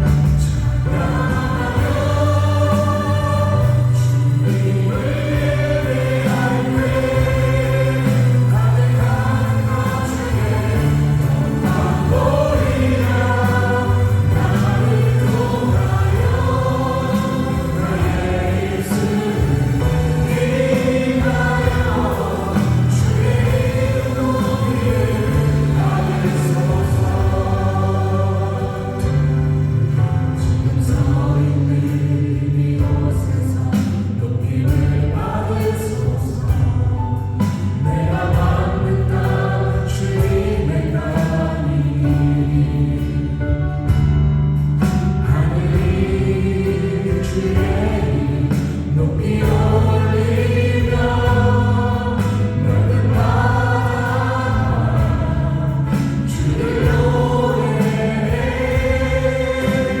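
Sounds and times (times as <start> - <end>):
singers singing together: 0.0 - 44.2, 44.8 - 60.0
acoustic guitar: 0.0 - 60.0
drums: 0.0 - 60.0
keyboards: 0.0 - 60.0.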